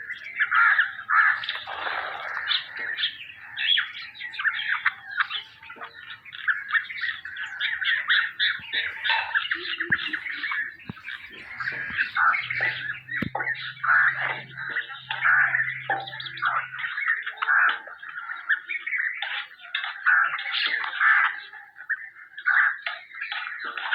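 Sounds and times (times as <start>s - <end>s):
young birds chirping rapidly: 0.0s - 23.9s.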